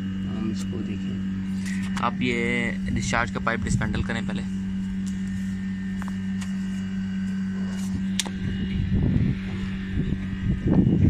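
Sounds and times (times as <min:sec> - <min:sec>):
high steady whine: 0:00.0 - 0:11.0
low machine hum: 0:00.0 - 0:11.0.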